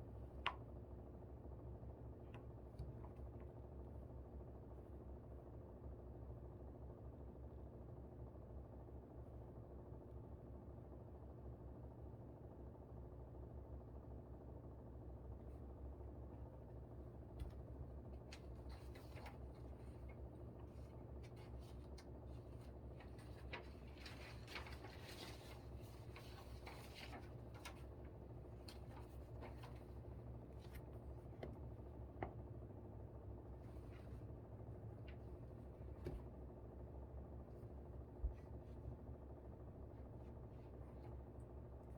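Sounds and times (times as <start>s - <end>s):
air conditioner hum: 0.0s - 41.9s.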